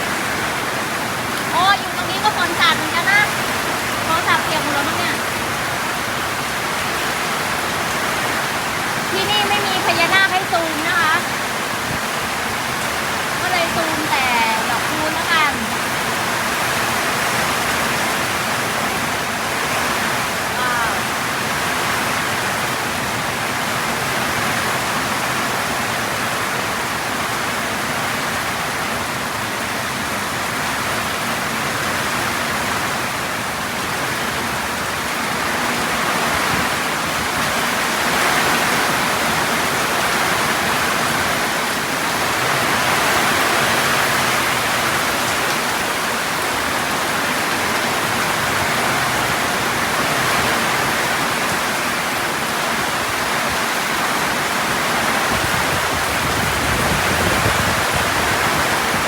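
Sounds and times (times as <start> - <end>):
heavy wind-driven rain: 0.0 - 59.0.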